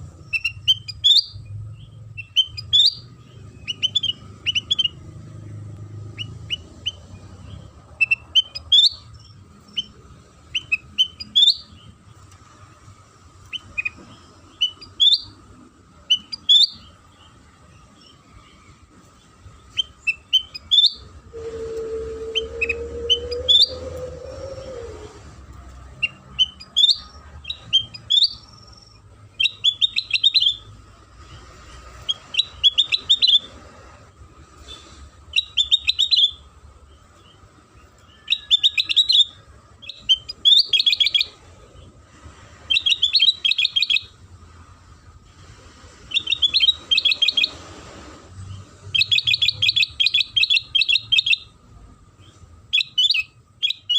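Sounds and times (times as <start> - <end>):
bird twittering and trilling: 0.2 - 12.0, 13.4 - 15.4, 16.1 - 18.8, 19.5 - 30.7, 31.3 - 33.6, 34.6 - 41.9, 42.6 - 44.1, 46.1 - 47.6, 48.5 - 51.5, 52.2 - 53.9.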